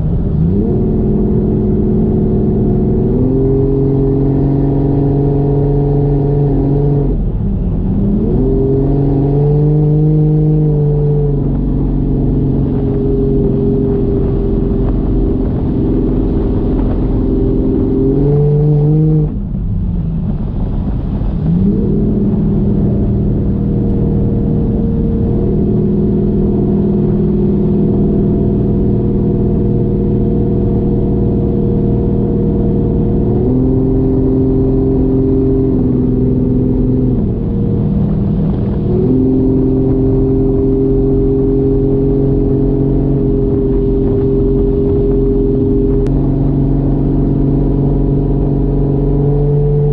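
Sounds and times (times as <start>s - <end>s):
car engine under part throttle: 0.0s - 49.9s.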